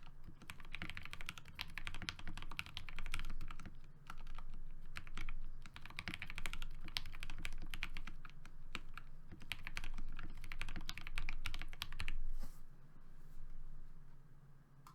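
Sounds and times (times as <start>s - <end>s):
mechanical keyboard typing: 0.0s - 12.2s.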